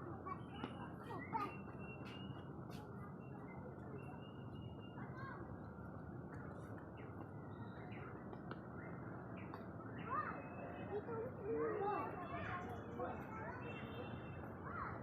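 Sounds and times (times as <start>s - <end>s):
faint background murmur: 0.0s - 15.0s.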